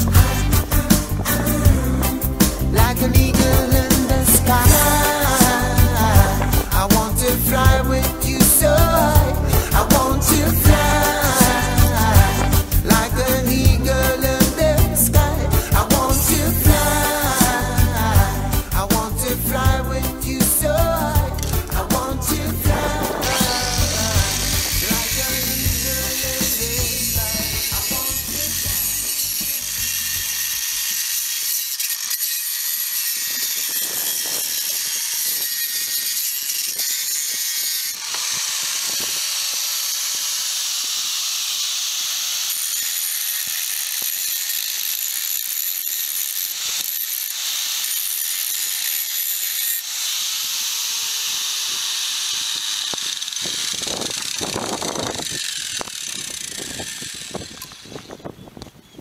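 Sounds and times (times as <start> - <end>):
angle grinder cutting shell: 0.0 - 58.8.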